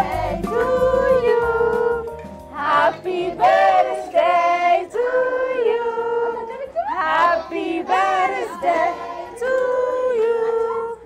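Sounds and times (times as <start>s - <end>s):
women and children singing: 0.0s - 11.0s.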